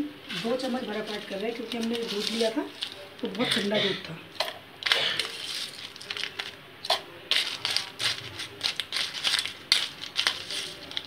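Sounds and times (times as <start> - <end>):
ice crunching against steel jar: 0.4 - 3.8, 4.8 - 11.0.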